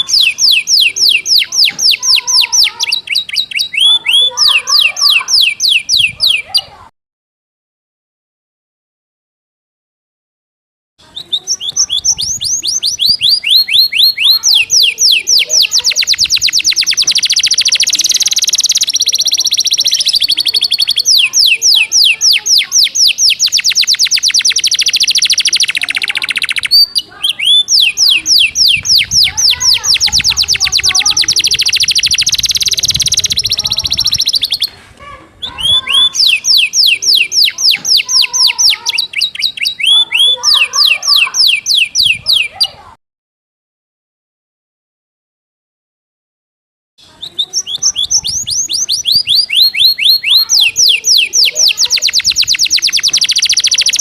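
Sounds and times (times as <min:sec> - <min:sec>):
canary singing: 0:00.0 - 0:06.8, 0:11.0 - 0:42.9, 0:47.0 - 0:54.0.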